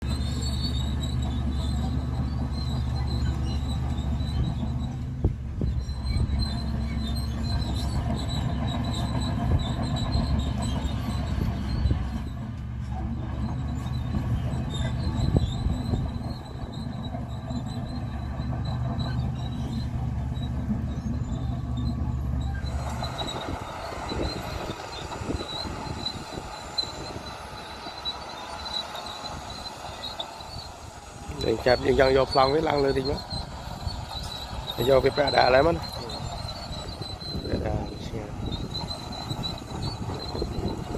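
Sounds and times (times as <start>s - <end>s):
bulldozer diesel engine: 0.0s - 40.9s
crawler tracks clattering: 0.1s - 40.9s.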